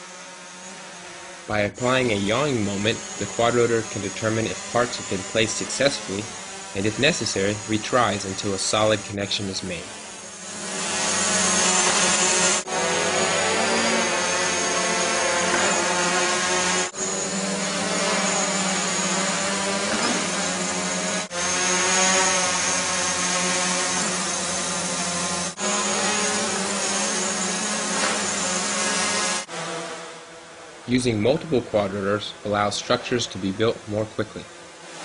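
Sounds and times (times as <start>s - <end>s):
drone propeller buzz and whine: 0.0s - 35.0s.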